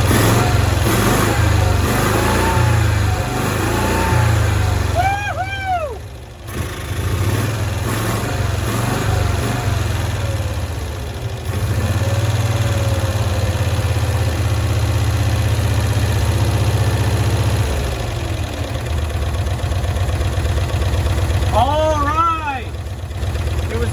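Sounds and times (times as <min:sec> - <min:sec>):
small engine idling: 0:00.0 - 0:23.9.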